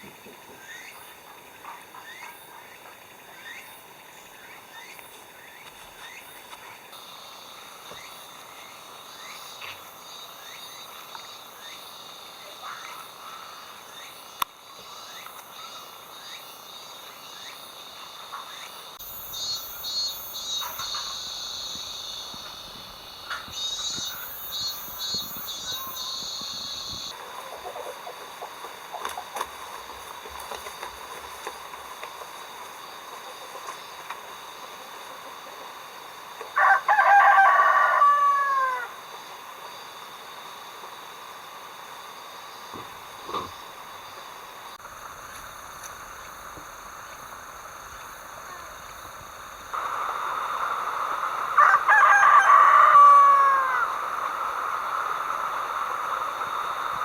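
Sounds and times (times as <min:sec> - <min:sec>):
crickets chirping: 0:00.0 - 0:57.0
rapidly pulsing insect call: 0:00.0 - 0:57.0.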